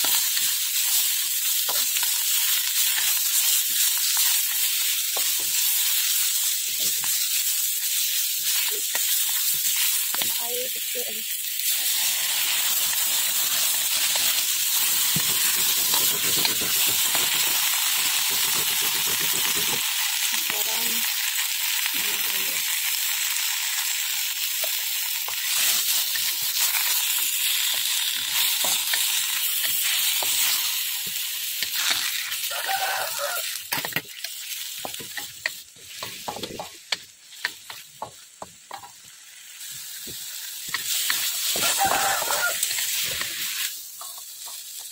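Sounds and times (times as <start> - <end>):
greens sizzling in oil: 0.0 - 44.9.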